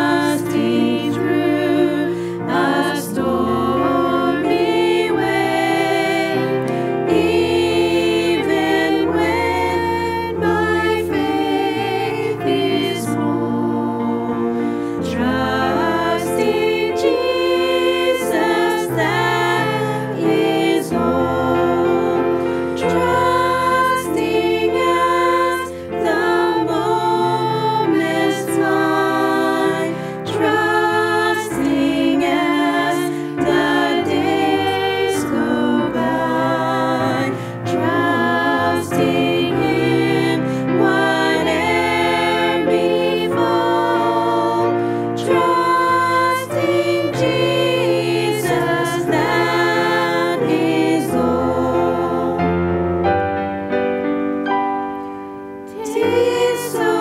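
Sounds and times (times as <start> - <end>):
women singing a hymn: 0.0 - 53.8, 55.6 - 57.0
instrumental accompaniment: 0.0 - 57.0.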